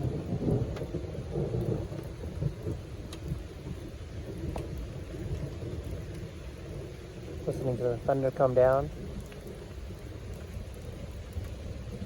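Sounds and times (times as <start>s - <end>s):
low rolling thunder: 0.0s - 12.0s
rain hissing: 0.0s - 12.0s.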